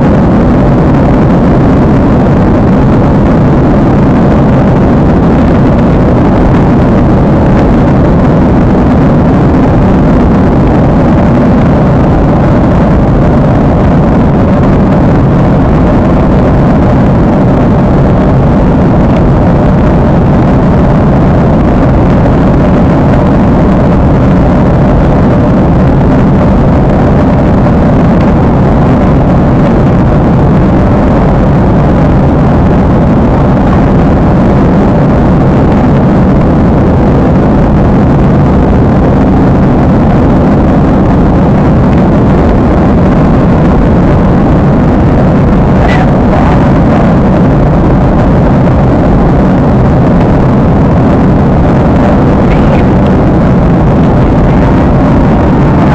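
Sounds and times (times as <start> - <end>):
jet engine roar in cabin: 0.0 - 55.9.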